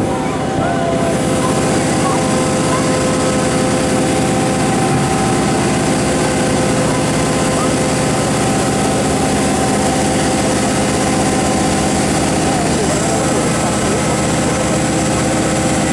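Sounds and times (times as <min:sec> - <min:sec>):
heavy engine drone: 0:00.0 - 0:15.9
steady whining tones: 0:00.0 - 0:15.9.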